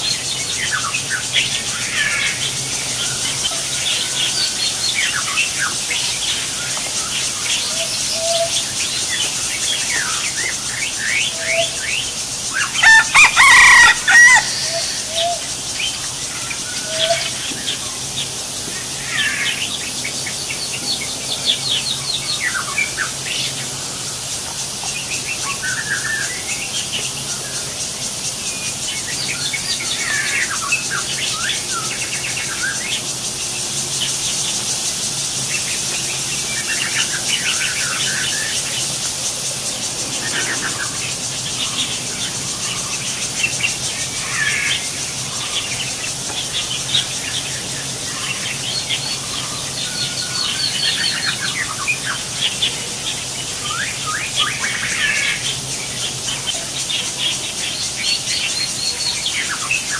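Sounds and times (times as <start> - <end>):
birds chirping: 0.0 - 59.9
steady high-pitched buzz: 0.0 - 59.9.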